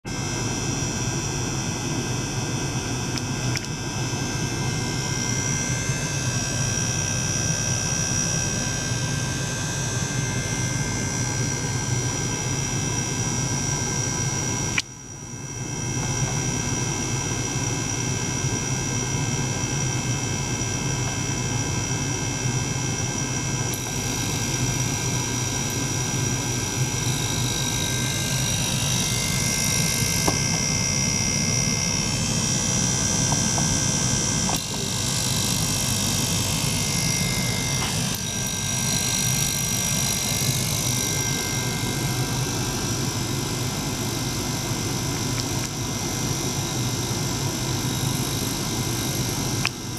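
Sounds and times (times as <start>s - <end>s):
ultrasonic bath whining: 0.1s - 18.7s, 23.0s - 49.9s
pump humming: 0.1s - 49.9s.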